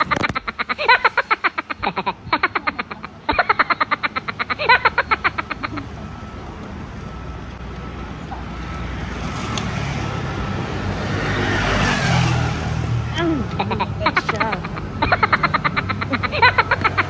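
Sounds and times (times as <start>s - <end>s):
passing vehicles rumbling: 0.0s - 17.0s.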